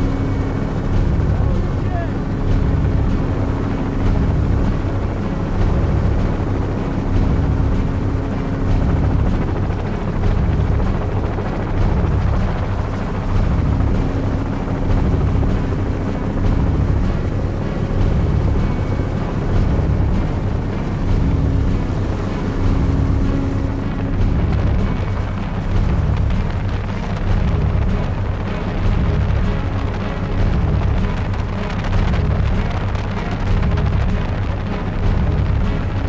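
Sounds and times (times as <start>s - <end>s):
helicopter engine and rotor noise: 0.0s - 36.0s
steady hum: 0.0s - 36.0s.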